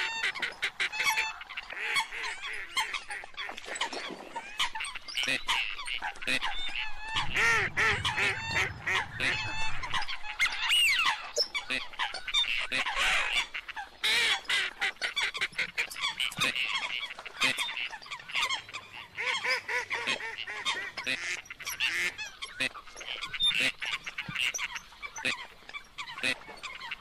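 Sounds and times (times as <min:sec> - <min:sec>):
ducks and water hens calling: 0:00.0 - 0:27.0.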